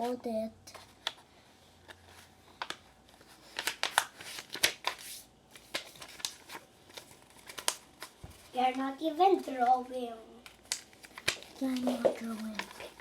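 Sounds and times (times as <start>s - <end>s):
paper rustling and crackling: 0.0s - 13.0s.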